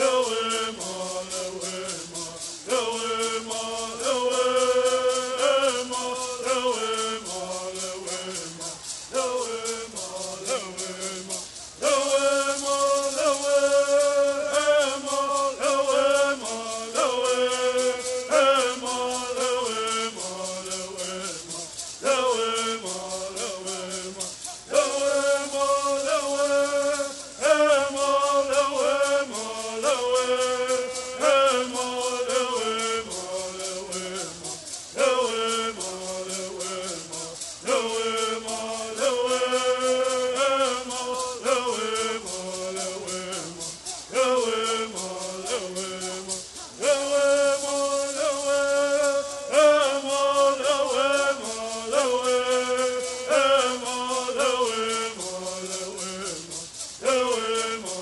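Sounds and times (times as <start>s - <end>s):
gourd rattles shaking: 0.0s - 58.0s
men singing in unison: 0.0s - 58.0s.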